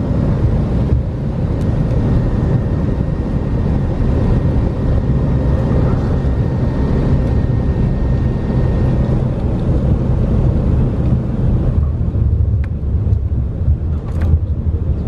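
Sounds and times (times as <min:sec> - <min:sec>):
radial engine deep rumble: 0:00.0 - 0:15.0.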